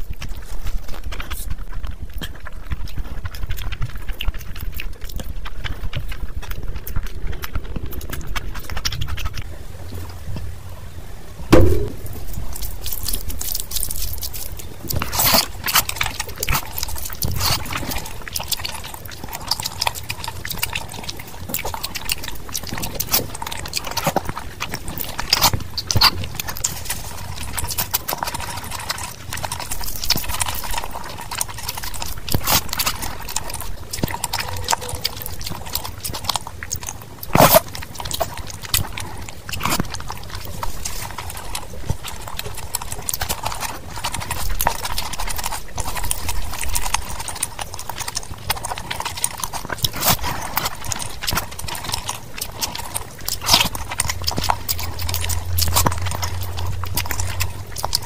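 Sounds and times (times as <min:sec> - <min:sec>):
wet chewing and mouth clicks: 0:00.0 - 0:10.6, 0:11.5 - 0:58.0
fingers squeezing rice in curry: 0:11.5 - 0:58.0.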